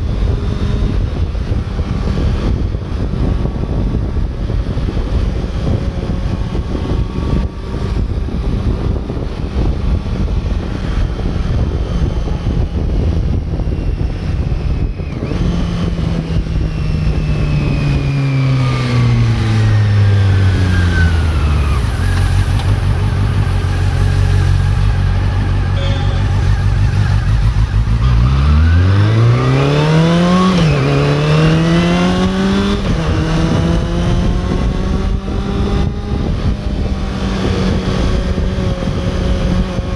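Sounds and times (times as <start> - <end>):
motorcycle engine: 0.0 - 39.9
wind noise on microphone: 0.0 - 39.9
gear change: 0.2 - 39.9.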